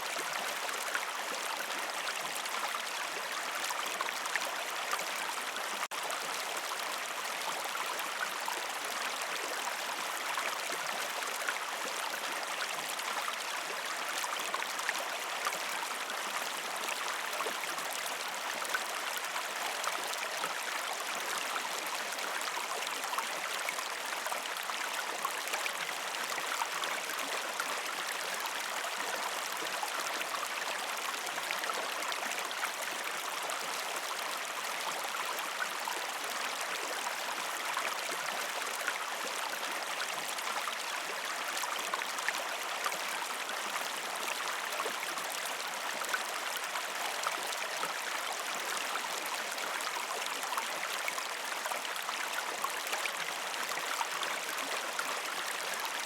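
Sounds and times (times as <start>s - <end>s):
water flowing over rocks: 0.0s - 56.0s.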